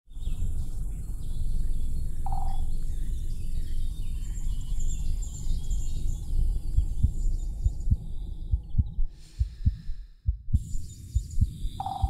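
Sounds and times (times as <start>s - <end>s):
birds chirping: 0.1s - 12.0s
steady low rumble: 0.1s - 12.0s.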